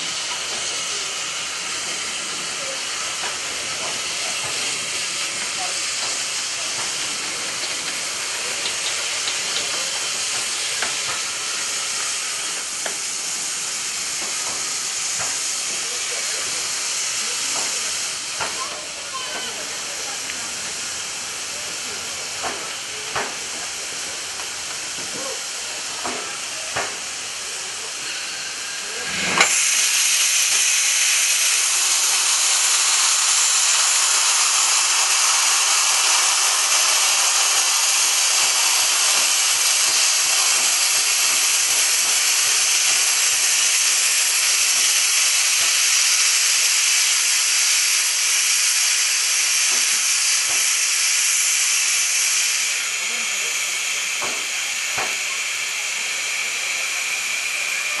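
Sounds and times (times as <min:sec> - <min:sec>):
high-pitched rush of escaping steam: 0:00.0 - 0:58.0
steam locomotive hissing: 0:00.0 - 0:58.0.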